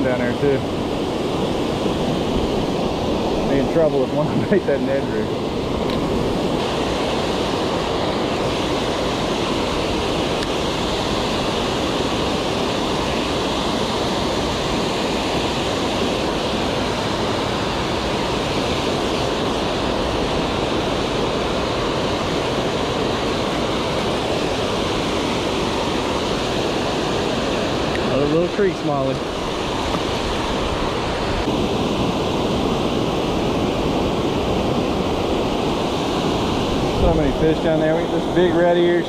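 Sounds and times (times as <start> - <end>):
water rushing over spillway: 0.0 - 39.0.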